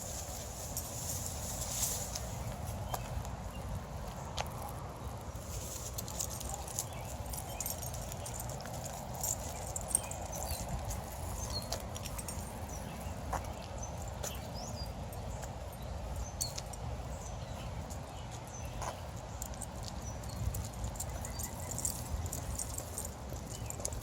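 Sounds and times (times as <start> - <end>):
footsteps of person and dogs: 0.0 - 24.0
low rumble of wind: 0.0 - 24.0.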